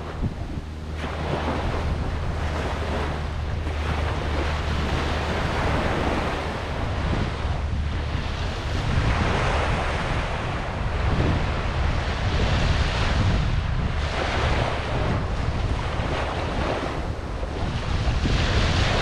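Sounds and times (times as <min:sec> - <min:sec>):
ocean waves washing onto beach: 0:00.0 - 0:19.0
wind rumble on microphone: 0:00.0 - 0:19.0.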